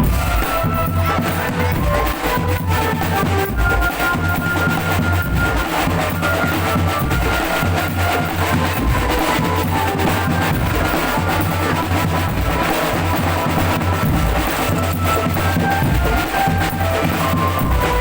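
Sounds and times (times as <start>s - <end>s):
bass and snare drums beating: 0.0s - 18.0s.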